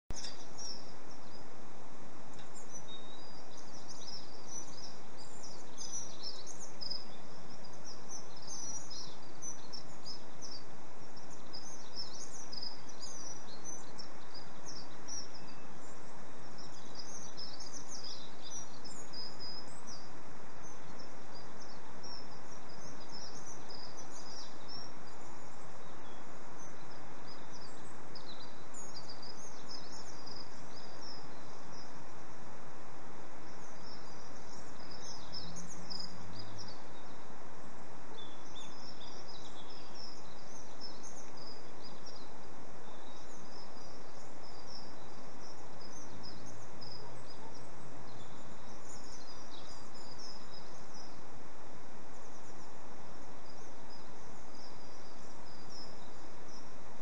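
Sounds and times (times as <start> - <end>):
outdoor background hiss: 0.0 - 57.0
small songbirds chirping: 0.0 - 57.0.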